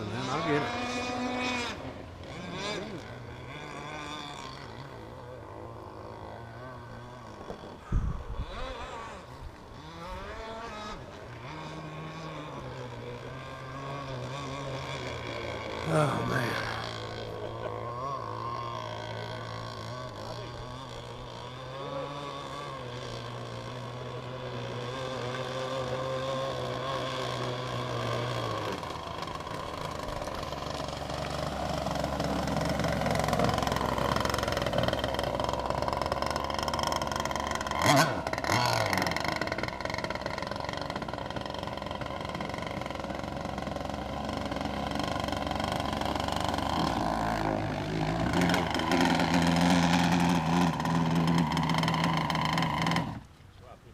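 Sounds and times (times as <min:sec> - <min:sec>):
rc boat two-stroke engine: 0:00.0 - 0:53.9.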